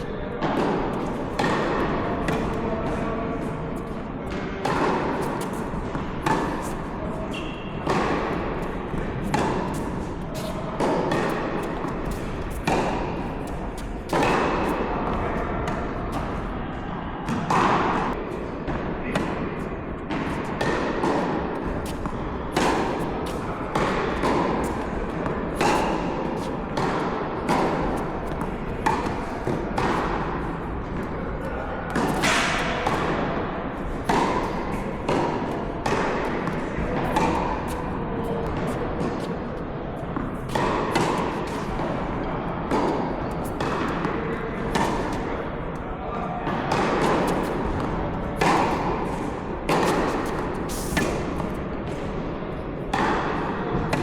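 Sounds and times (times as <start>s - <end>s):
tennis ball bouncing on court: 0.4s - 3.0s, 3.8s - 16.5s, 17.2s - 45.8s, 46.5s - 52.2s, 52.9s - 54.0s
tennis ball struck by rackets: 0.4s - 3.0s, 3.8s - 16.5s, 17.2s - 31.1s, 31.9s - 39.4s, 40.1s - 45.3s, 46.5s - 52.2s, 52.9s - 54.0s.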